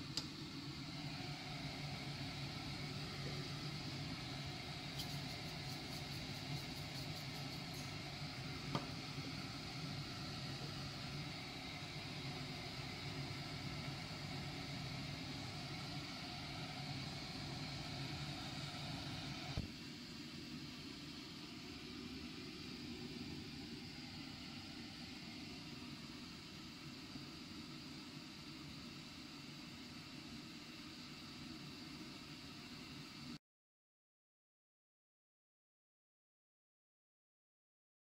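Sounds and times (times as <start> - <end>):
gas stove burner hissing: 0.0 - 33.3.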